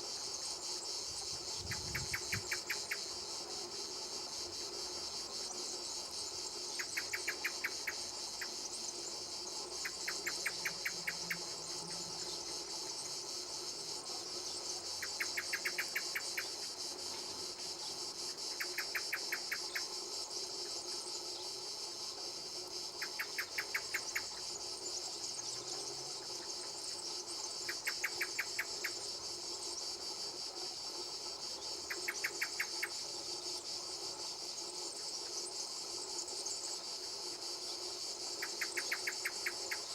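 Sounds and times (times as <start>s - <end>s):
insects buzzing: 0.0s - 39.9s
rapid insect clicking pulses: 0.0s - 39.9s.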